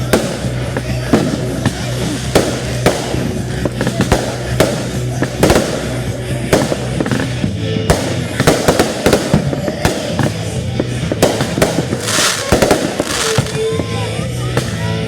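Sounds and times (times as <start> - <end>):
fireworks shells bursting: 0.0 - 13.8
background music: 0.0 - 15.0.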